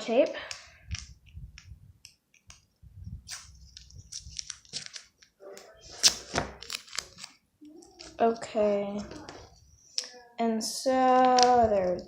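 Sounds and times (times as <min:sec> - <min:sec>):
sticky tape crackling: 0:00.4 - 0:10.3, 0:10.9 - 0:12.0.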